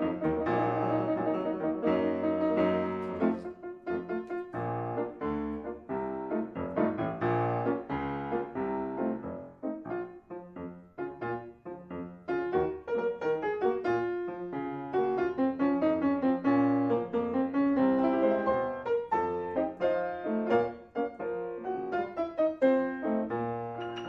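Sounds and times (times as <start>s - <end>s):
solo piano playing: 0.0s - 24.0s.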